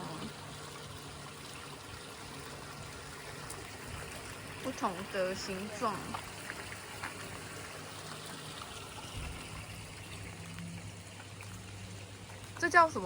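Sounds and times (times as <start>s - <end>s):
water trickling from a fountain: 0.0s - 13.0s.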